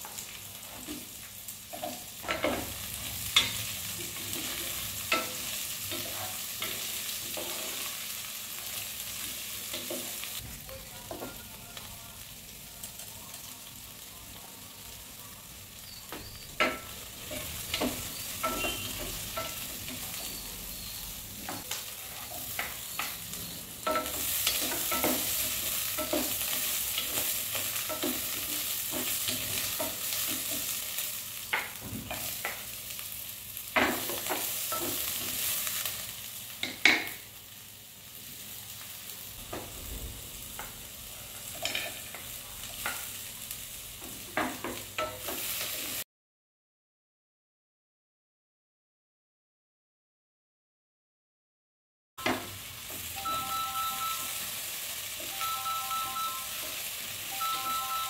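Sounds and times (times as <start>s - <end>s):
onions sizzling in a pot: 0.0s - 46.0s, 52.2s - 58.0s.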